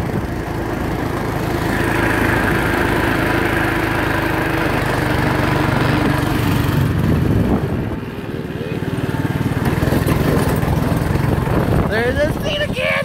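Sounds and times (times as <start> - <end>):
dirt bike engine running: 0.0 - 13.0
go-kart engine running: 0.0 - 13.0.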